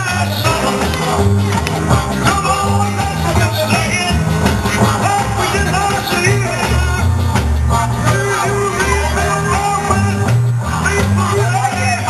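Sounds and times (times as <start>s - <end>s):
pop-rock music with vocals: 0.0s - 12.0s.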